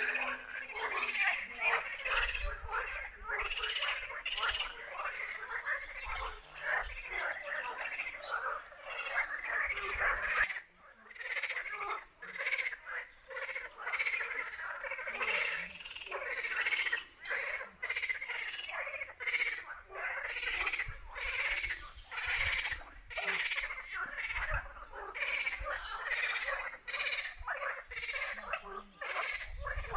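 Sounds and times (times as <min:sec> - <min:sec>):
frogs croaking: 0:00.0 - 0:29.9.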